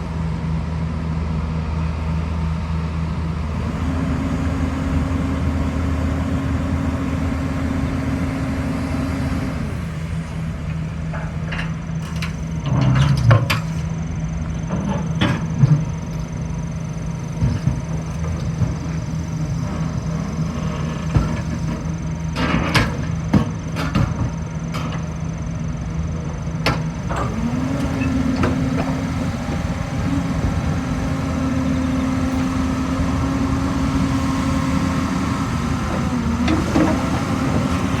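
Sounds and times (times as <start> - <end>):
excavator diesel engine and hydraulics: 0.0 - 38.0.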